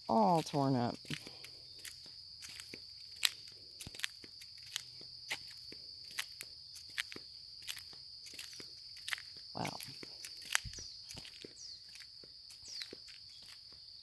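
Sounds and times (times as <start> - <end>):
footsteps on outdoor trail: 0.0 - 14.0
high insect drone: 0.0 - 14.0.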